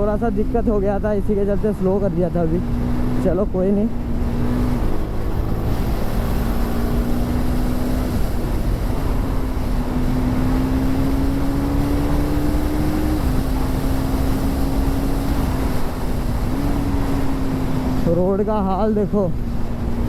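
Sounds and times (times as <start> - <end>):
motorcycle engine under throttle: 0.0 - 18.2
wind rush on microphone: 0.0 - 20.0.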